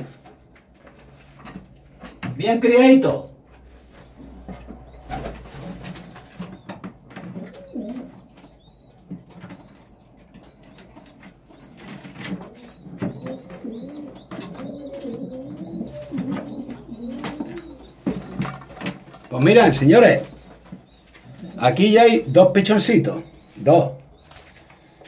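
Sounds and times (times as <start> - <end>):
pigeons cooing: 3.6 - 25.0.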